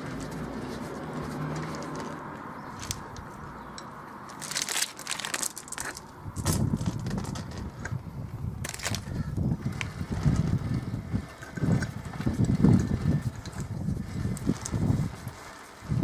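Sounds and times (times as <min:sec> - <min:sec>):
rumbling handling noise: 0:00.0 - 0:16.0.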